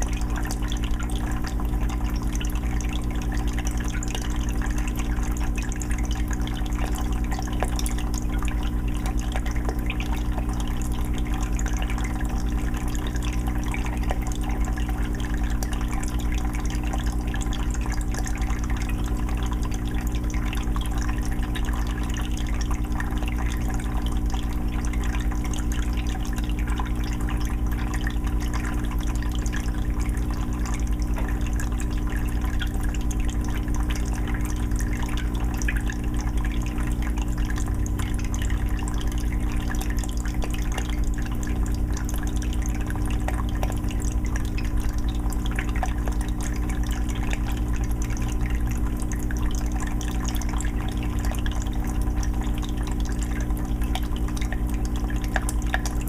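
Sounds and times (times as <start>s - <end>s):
filter motor hum: 0.0s - 56.0s
water trickling and splashing: 0.0s - 56.0s.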